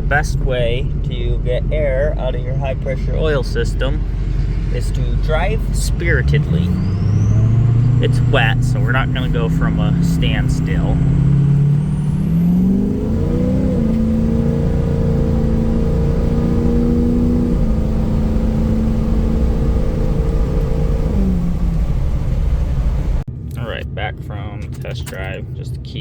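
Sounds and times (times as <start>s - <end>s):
diesel truck engine accelerating: 0.0s - 26.0s.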